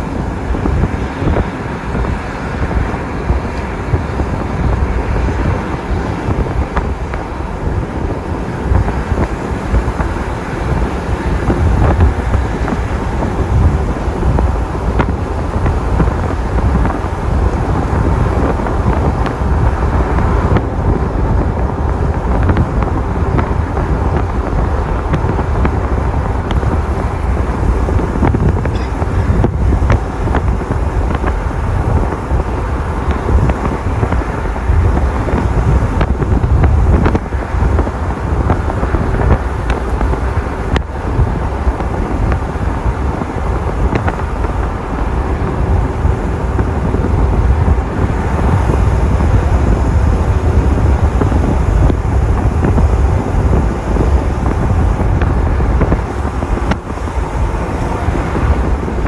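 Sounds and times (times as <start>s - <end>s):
low outdoor rumble: 0.0s - 59.0s.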